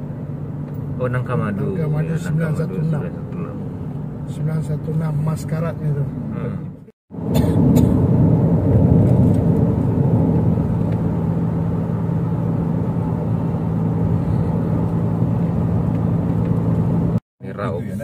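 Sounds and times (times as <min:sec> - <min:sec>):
low engine drone: 0:00.0 - 0:17.2
tyres rumbling on highway: 0:00.0 - 0:18.0.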